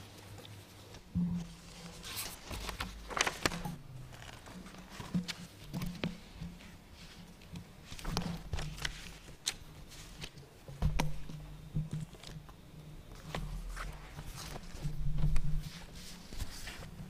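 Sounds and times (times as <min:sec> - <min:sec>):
paper rustling: 0:00.9 - 0:17.0.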